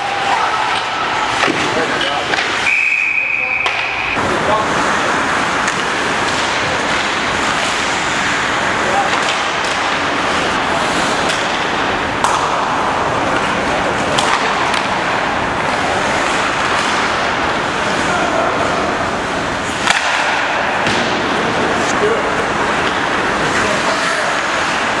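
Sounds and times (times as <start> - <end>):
hockey sticks and puck clacking: 0.0 - 25.0
noisy rink din: 0.0 - 25.0.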